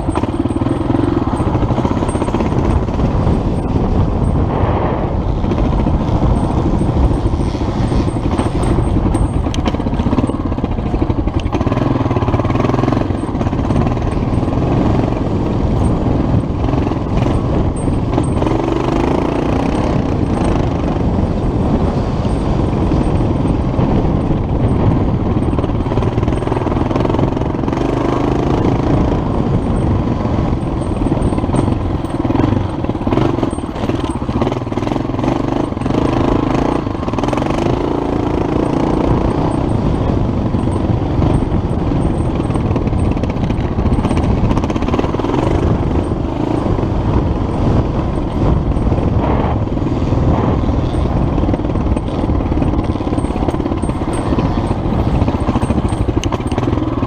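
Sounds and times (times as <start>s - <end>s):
dirt bike engine revving: 0.0s - 57.0s
ride rumble on microphone: 0.0s - 57.0s.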